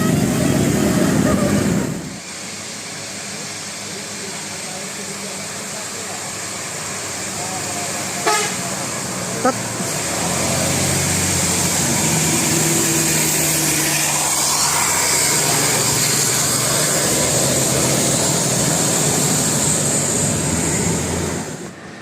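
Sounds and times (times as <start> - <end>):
vehicle engine running loudly: 0.0 - 22.0.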